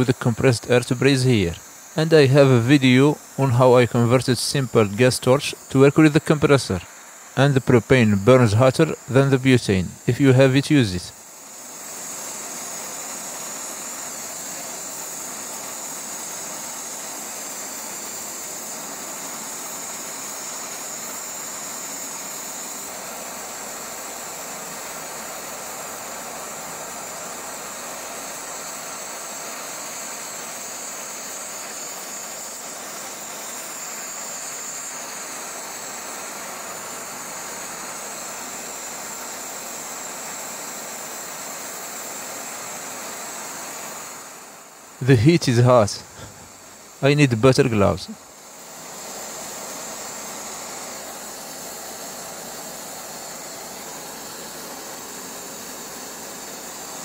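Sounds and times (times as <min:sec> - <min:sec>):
torch flame hissing: 0:00.0 - 0:57.0.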